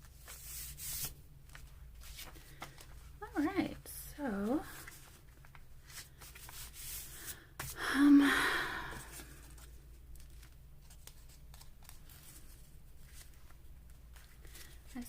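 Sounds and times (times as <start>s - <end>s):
paper rustling: 0.0s - 3.1s, 4.4s - 7.8s, 8.9s - 15.0s.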